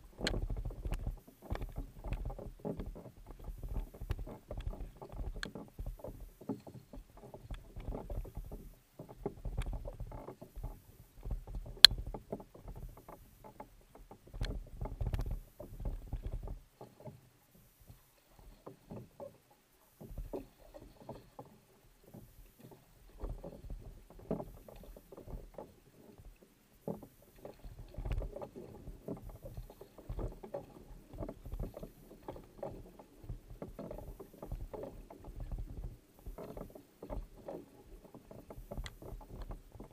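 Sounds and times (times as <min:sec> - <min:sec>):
paddle splashing in water: 0:00.0 - 0:39.9
water washing past hull: 0:00.0 - 0:39.9.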